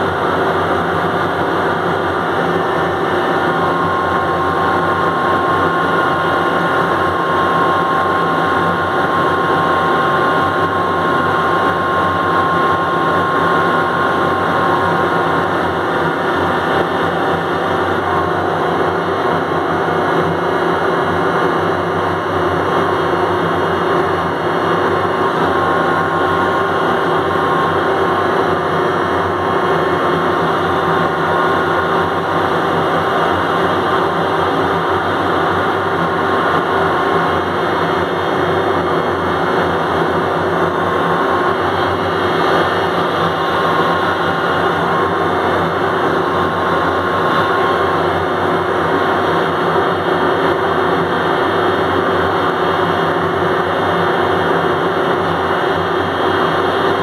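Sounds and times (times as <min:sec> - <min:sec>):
crane machinery droning: 0:00.0 - 0:57.0.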